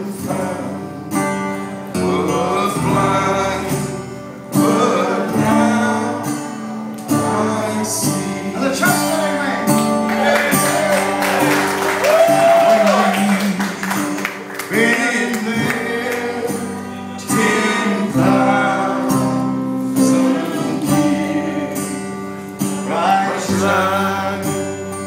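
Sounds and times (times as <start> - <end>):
man singing: 0.0 - 10.9, 12.5 - 14.0, 14.6 - 22.1, 22.7 - 25.0
strummed guitar chords: 0.0 - 25.0.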